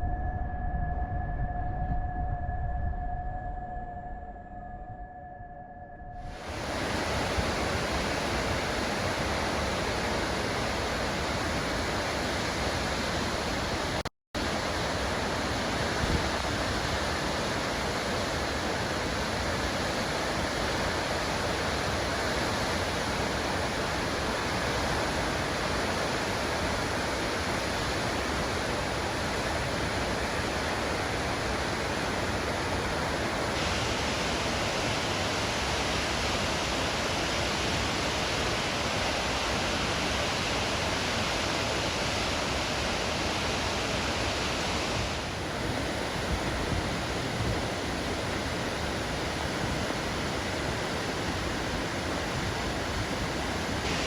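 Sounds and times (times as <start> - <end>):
waterfall rushing: 6.4 - 54.0.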